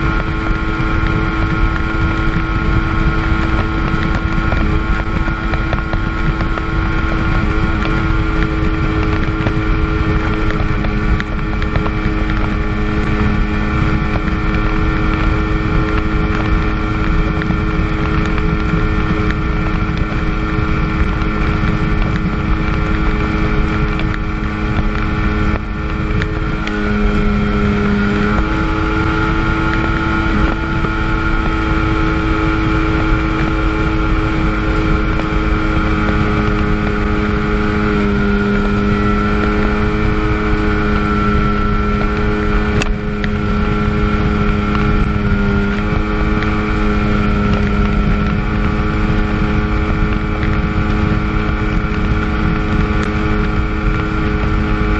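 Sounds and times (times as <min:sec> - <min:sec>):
jet ski engine running: 0:00.0 - 0:54.9
wind on microphone: 0:00.0 - 0:54.9.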